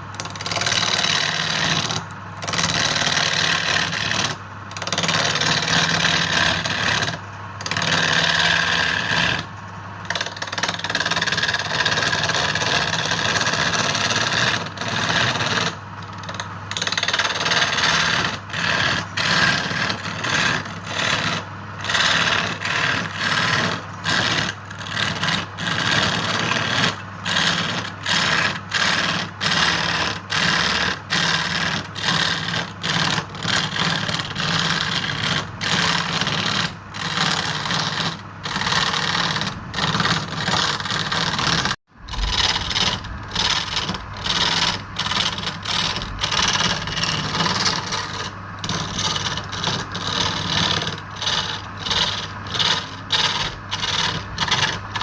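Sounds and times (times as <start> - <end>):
lathe motor hum: 0.0 - 55.0
tool scraping spinning wood: 0.0 - 55.0.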